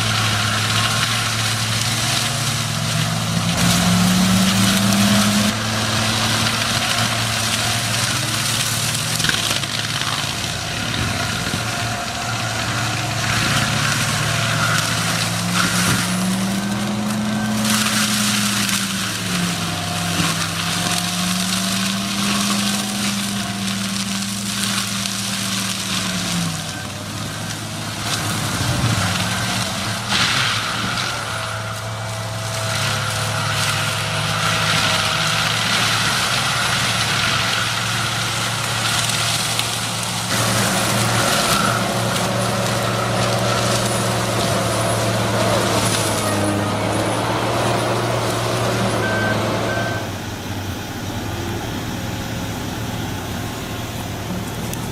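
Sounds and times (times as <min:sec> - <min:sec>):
heavy machine engine running: 0:00.0 - 0:54.9
wood grinding and crushing: 0:00.0 - 0:54.9.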